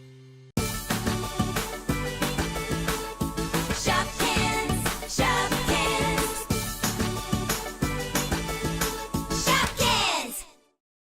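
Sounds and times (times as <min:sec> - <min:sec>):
upbeat background music: 0:00.6 - 0:10.8.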